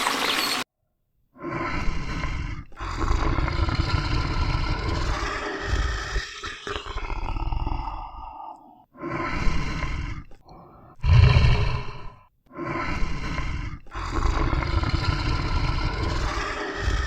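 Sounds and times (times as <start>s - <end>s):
large animal roaring: 1.4s - 17.0s.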